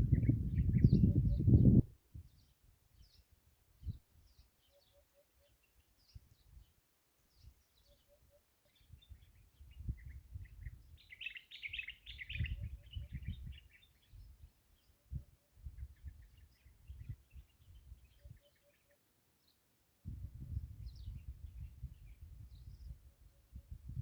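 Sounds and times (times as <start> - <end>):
small birds chirping: 0.0 - 19.8.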